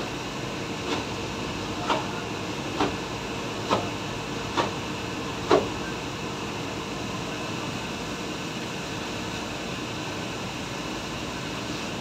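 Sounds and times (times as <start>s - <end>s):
fan-like background noise: 0.0s - 12.0s.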